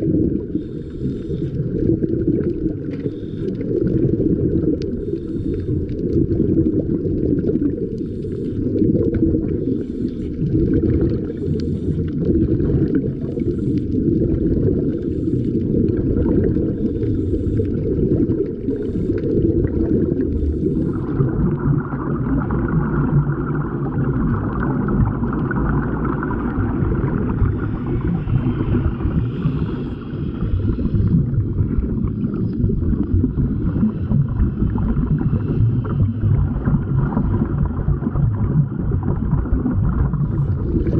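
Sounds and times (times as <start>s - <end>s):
air bubbles: 0.0s - 40.9s
underwater water noise: 0.0s - 40.9s.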